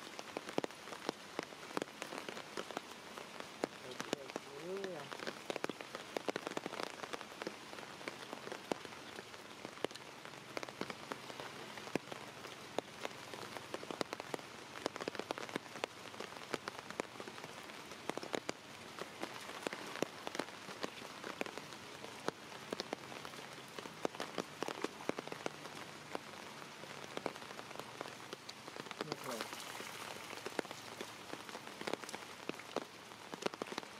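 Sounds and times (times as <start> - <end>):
rain falling on water and stone: 0.0 - 33.9.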